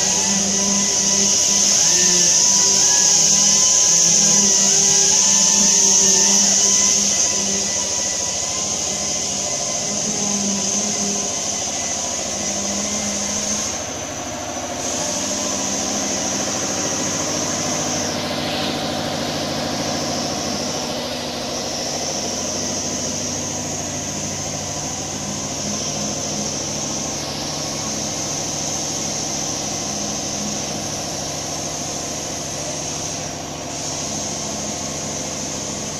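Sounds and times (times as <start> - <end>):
high-pitched hiss: 0.0 - 35.9
mechanical hum: 0.0 - 35.9.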